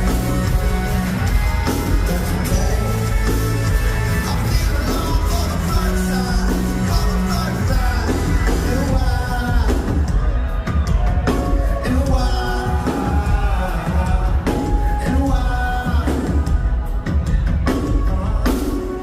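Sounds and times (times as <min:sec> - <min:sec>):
pop-rock music with singing: 0:00.0 - 0:19.0.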